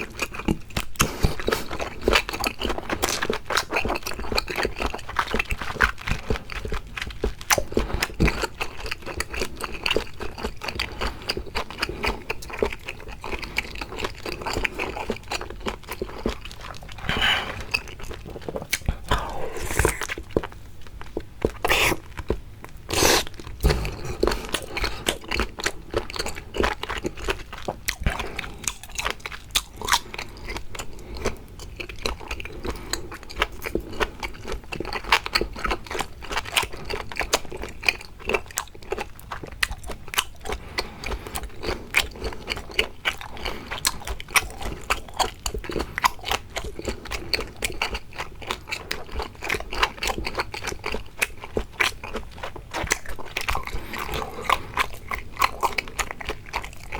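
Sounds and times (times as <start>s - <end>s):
chewing and biting seafood: 0.0s - 56.9s.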